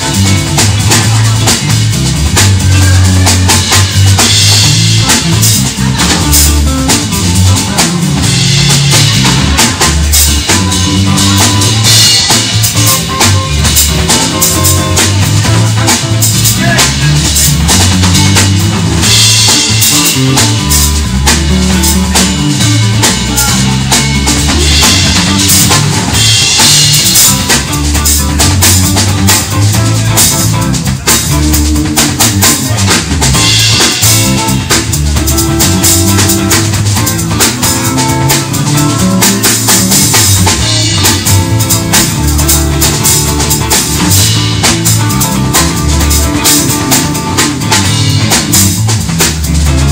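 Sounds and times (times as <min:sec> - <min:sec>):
bass line: 0:00.0 - 0:49.9
drum kit playing: 0:00.0 - 0:49.9
live band music: 0:00.0 - 0:49.9.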